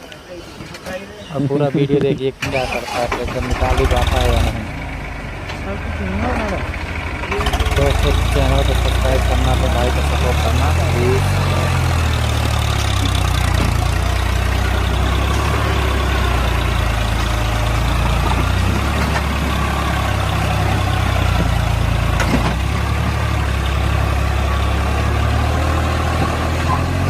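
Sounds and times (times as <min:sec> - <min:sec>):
tractor diesel engine running: 0:02.3 - 0:27.0.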